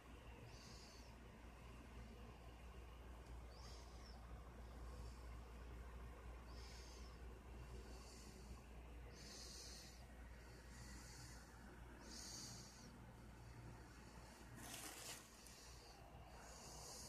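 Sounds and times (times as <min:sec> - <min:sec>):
faint breathing: 0:00.0 - 0:17.0
low steady hum: 0:00.0 - 0:17.0.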